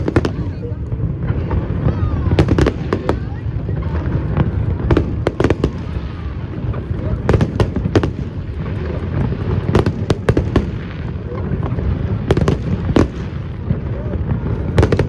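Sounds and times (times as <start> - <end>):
continuous low rumble: 0.0 - 15.0
fireworks bangs: 0.0 - 15.0.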